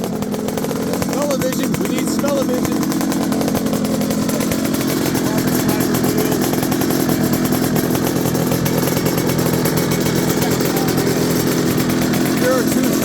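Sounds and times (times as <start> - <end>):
two-stroke motorcycle engine buzzing: 0.0 - 13.0.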